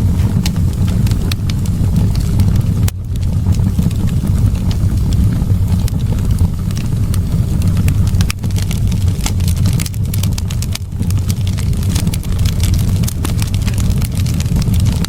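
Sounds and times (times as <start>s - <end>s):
low rumble of flame: 0.0s - 15.0s
wood fire crackling and popping: 0.0s - 15.0s.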